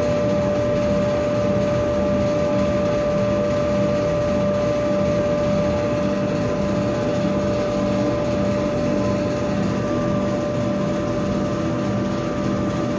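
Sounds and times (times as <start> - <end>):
laser engraver whine and hum: 0.0 - 12.9.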